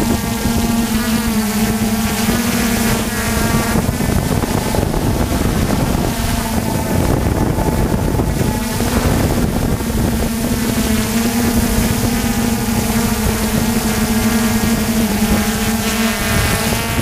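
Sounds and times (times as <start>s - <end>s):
drone motors buzzing: 0.0s - 17.0s
wind rushing over microphone: 0.0s - 17.0s.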